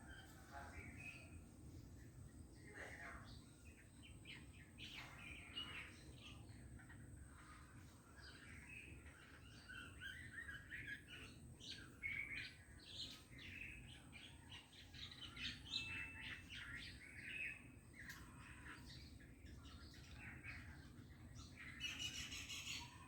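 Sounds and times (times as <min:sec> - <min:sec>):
bulbuls chirping: 0:00.0 - 0:23.0.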